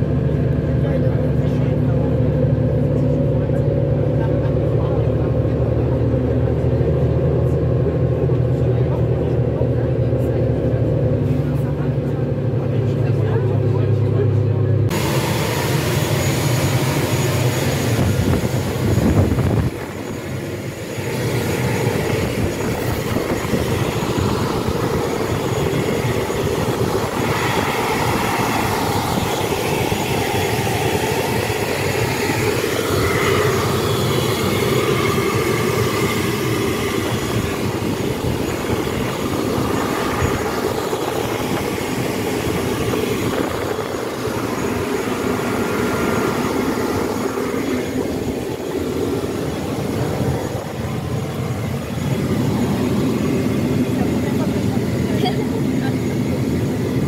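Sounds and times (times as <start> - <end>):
vehicle rumble and rattle: 0.0 - 56.9.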